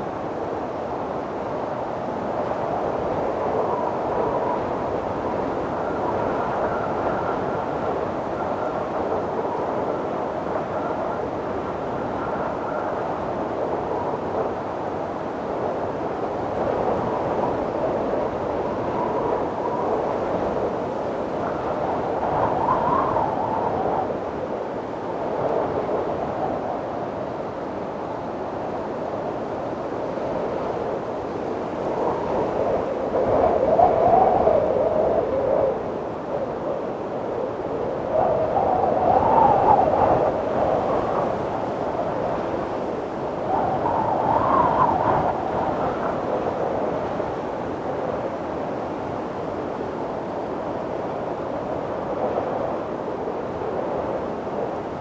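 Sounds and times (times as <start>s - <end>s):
wind blowing with moaning gusts: 0.0s - 55.0s.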